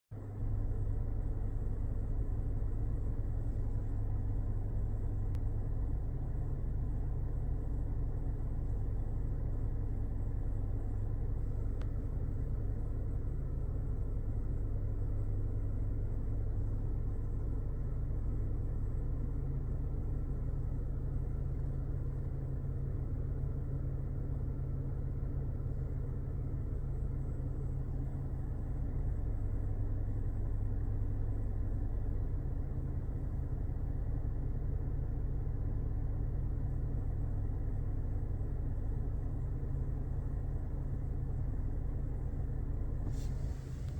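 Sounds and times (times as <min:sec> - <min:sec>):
car engine drone: 0:00.2 - 0:43.9.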